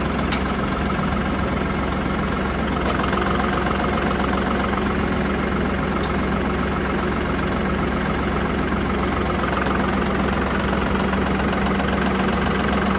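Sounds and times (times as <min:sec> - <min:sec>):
tractor diesel engine idling: 0:00.0 - 0:12.9.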